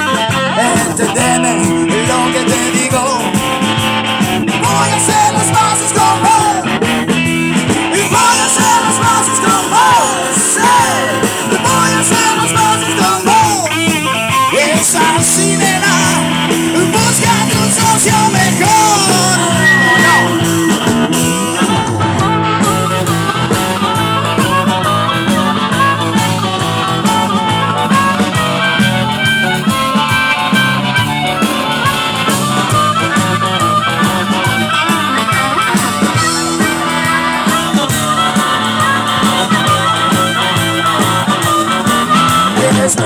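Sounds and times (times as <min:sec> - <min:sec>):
drum kit steady beat: 0:00.0 - 0:43.0
electric bass: 0:00.0 - 0:43.0
electric guitar: 0:00.0 - 0:43.0
harmonica solo: 0:00.0 - 0:43.0.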